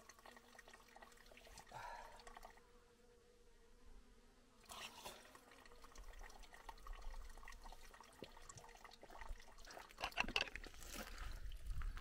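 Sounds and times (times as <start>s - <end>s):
trickle of water splashing: 0.0s - 2.6s, 4.6s - 11.7s.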